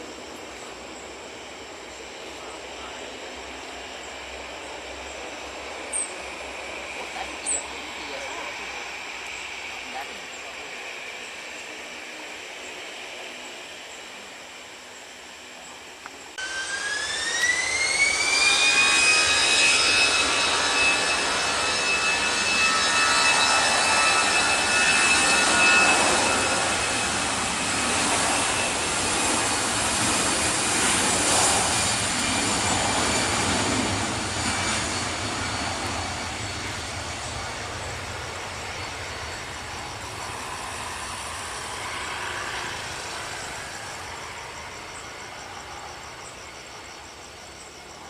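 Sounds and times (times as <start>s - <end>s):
jet engines spooling up: 0.0s - 48.0s.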